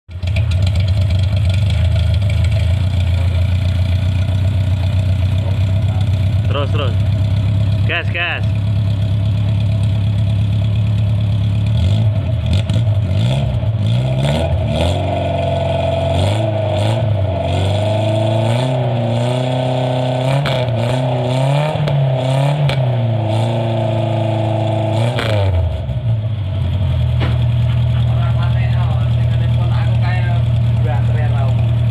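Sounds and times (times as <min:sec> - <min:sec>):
car exhaust revving: 0:00.1 - 0:31.9.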